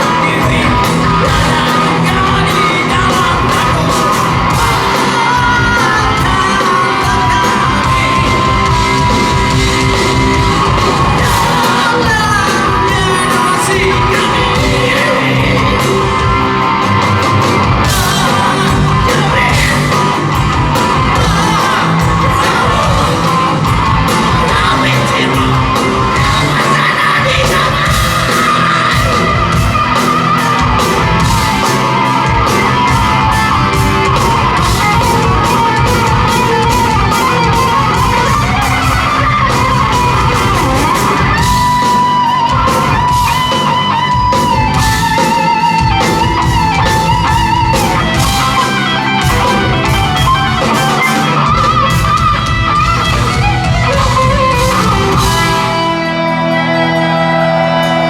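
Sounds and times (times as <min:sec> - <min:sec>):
bending lead guitar line: 0:00.0 - 0:58.0
rock band playing live: 0:00.0 - 0:58.0
sustained guitar chords: 0:00.0 - 0:58.0.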